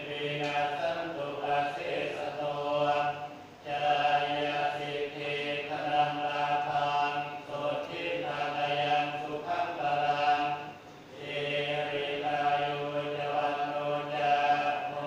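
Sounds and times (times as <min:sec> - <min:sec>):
group chanting in unison: 0:00.0 - 0:15.0.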